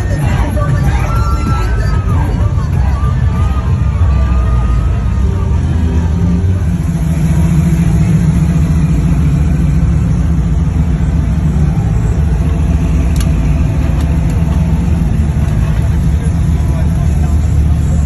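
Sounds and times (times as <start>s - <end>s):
car engines rolling past: 0.0s - 18.0s.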